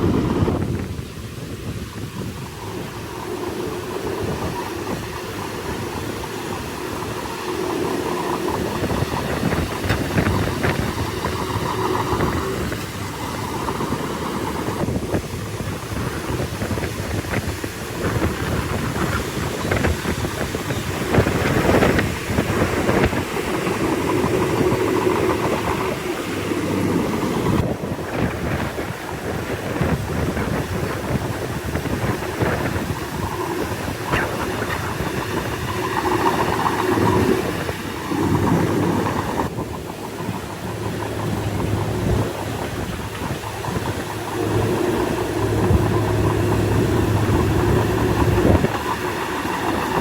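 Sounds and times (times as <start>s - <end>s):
bulldozer diesel engine: 0.0s - 50.0s
steel tracks clanking: 0.0s - 50.0s.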